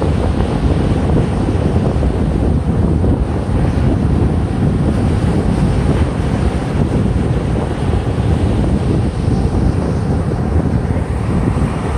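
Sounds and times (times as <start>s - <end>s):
ocean surf breaking: 0.0s - 11.9s
wind buffeting microphone: 0.0s - 11.9s.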